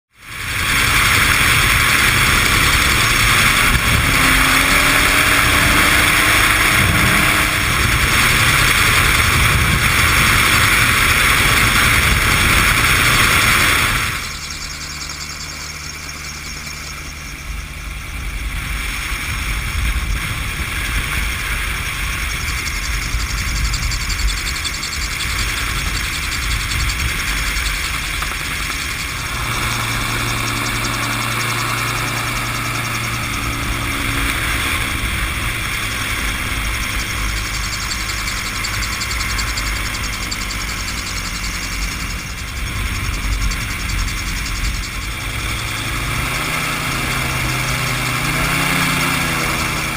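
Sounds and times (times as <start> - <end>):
gyrocopter engine and propeller: 0.1 - 49.9
wind rumble on microphone: 0.1 - 49.9.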